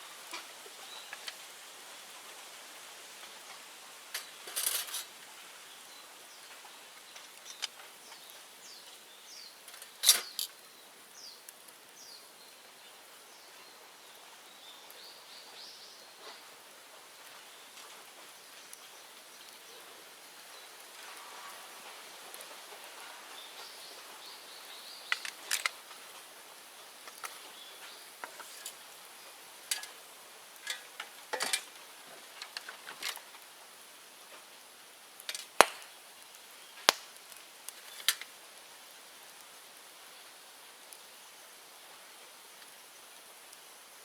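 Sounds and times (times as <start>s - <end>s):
faint steady hiss: 0.0s - 44.0s
bonfire crackling and popping: 0.1s - 44.0s.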